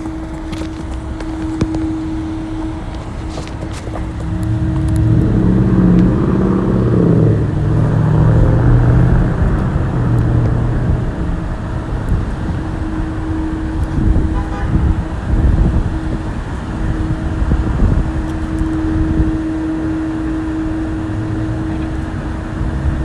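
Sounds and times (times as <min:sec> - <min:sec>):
street noise: 0:00.0 - 0:23.0
vehicle engine running: 0:00.0 - 0:23.0.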